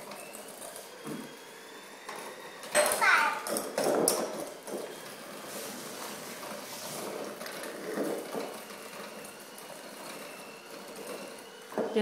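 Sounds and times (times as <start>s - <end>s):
electric mixer motor whir: 0.0s - 12.0s.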